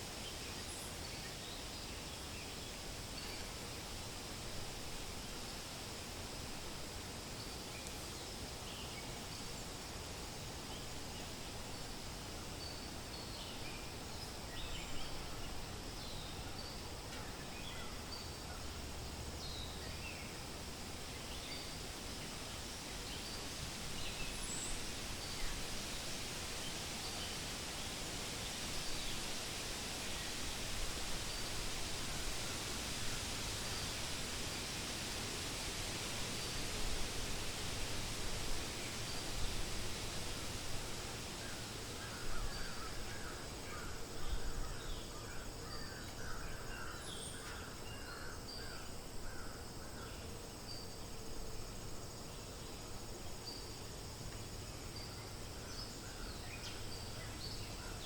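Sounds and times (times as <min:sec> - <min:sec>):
songbirds chirping: 0:00.0 - 0:58.0
wind rustling through leaves: 0:00.0 - 0:58.0.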